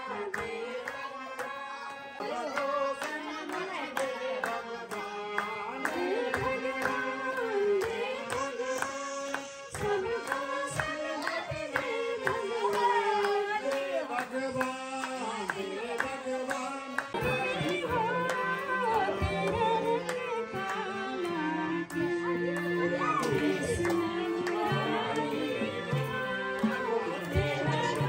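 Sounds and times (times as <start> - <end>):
harmonium: 0.0 - 28.0
person singing into microphone: 0.0 - 28.0.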